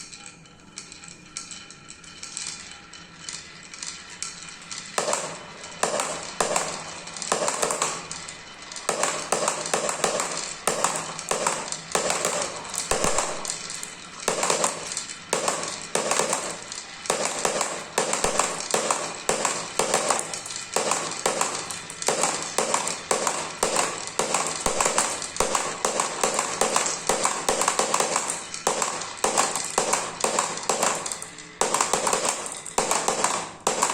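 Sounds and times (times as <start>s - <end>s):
marbles clattering down a run: 0.0s - 33.9s.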